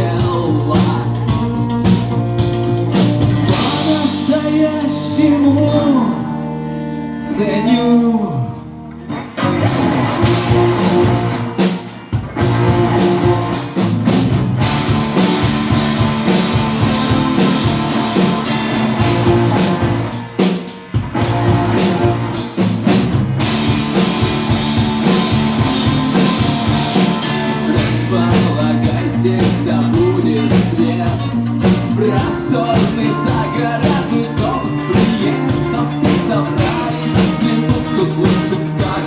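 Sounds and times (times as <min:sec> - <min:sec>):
rock band playing: 0:00.0 - 0:39.0.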